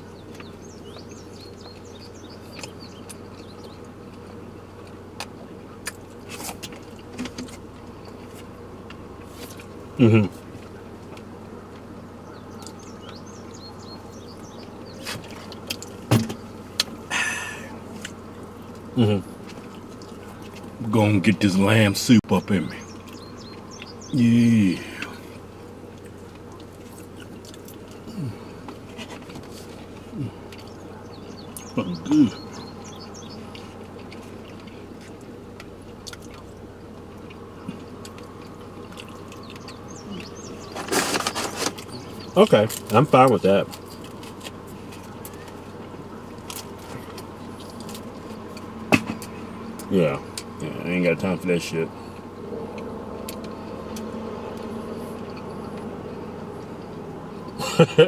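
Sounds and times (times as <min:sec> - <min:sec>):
car cabin hum: 0:00.0 - 0:58.0.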